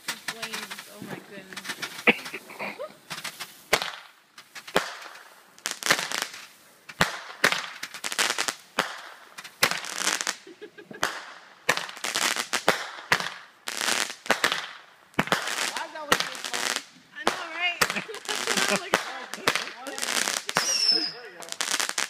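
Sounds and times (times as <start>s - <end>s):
crackling hiss: 0.0s - 22.0s
fireworks bangs: 0.0s - 22.0s.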